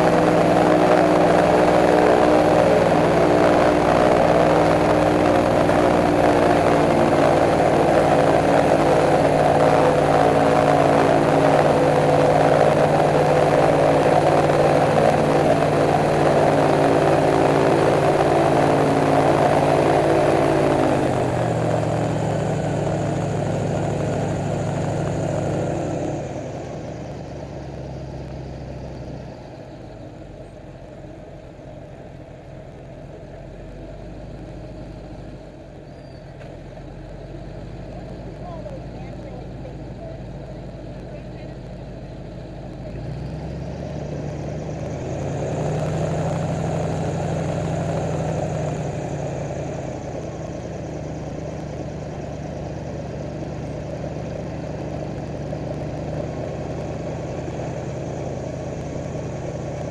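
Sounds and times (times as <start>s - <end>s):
airboat engine and propeller: 0.0s - 59.9s.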